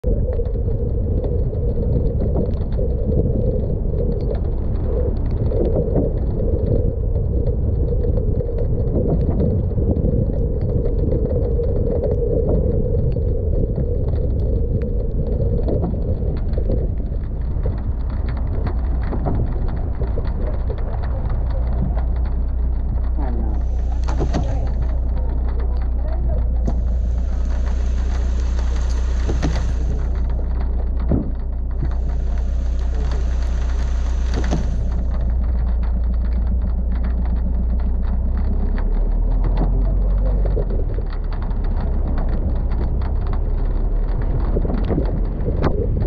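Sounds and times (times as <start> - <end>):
car driving on wet road: 0.1 - 46.0.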